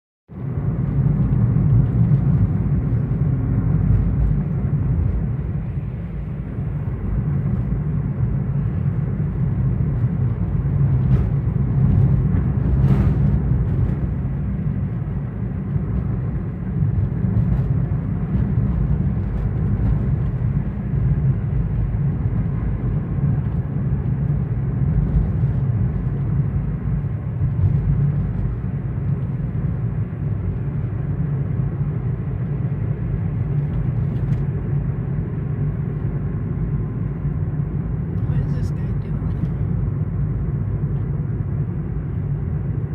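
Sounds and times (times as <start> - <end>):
engine running low: 0.3 - 42.9.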